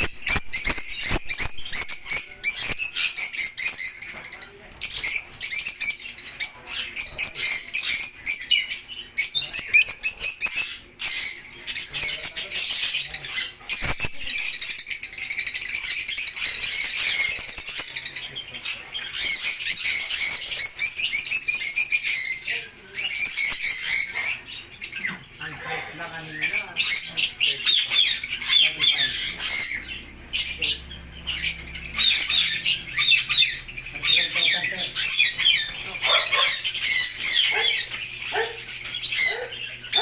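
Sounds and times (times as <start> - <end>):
birds chattering: 0.0 - 40.0.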